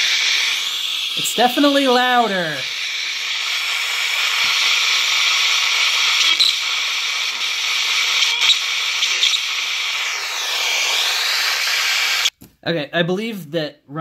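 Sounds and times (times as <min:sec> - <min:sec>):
radio static hissing: 0:00.0 - 0:12.3.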